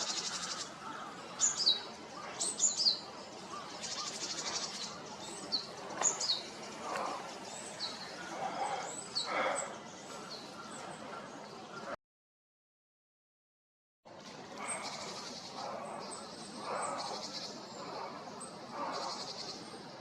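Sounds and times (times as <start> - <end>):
birds calling with sliding notes: 0.0 - 12.0, 14.2 - 20.0.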